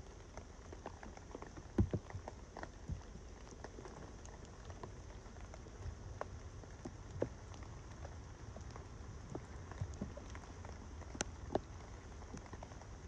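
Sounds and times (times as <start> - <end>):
low steady rumble: 0.0 - 13.0
rain pattering on a tarp: 0.0 - 13.0.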